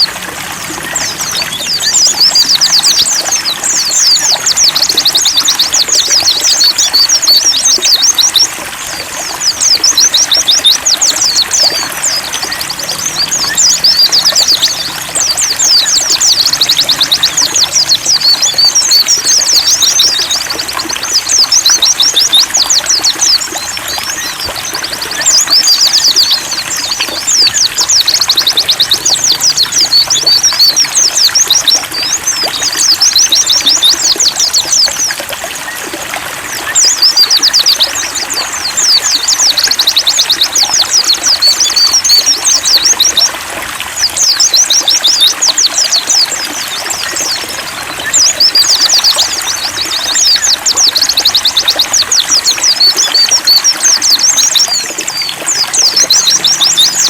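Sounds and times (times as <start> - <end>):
bird twittering: 0.0 - 57.0
trickle of running water: 0.0 - 57.0.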